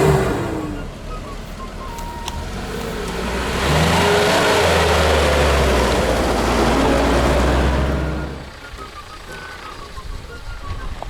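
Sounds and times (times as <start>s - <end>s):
off-road vehicle engine revving: 0.0s - 10.9s.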